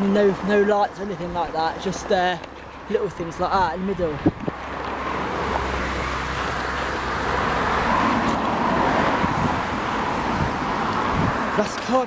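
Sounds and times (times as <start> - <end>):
cars passing on busy road: 0.0 - 12.0.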